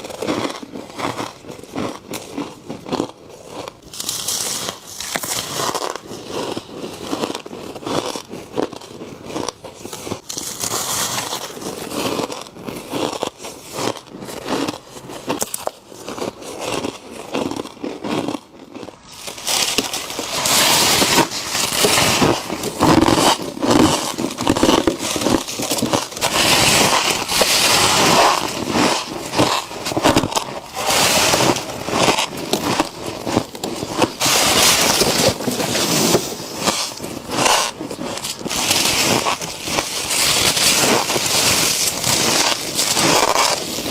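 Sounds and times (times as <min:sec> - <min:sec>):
crunchy bites and chews of frost: 0:00.0 - 0:43.9.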